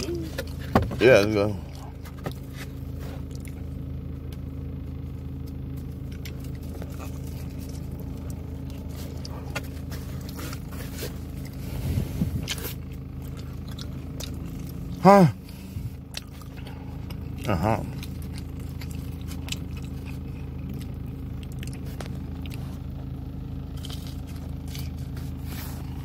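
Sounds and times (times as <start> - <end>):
car engine idling hum: 0.0 - 26.0.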